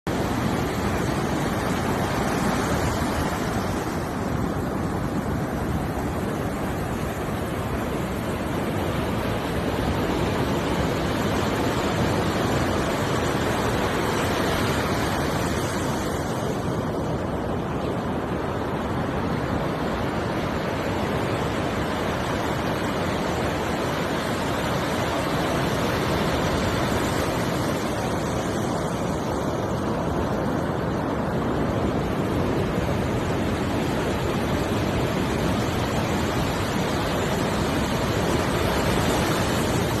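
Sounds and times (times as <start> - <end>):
surf washing onto shore: 0.1 - 40.0.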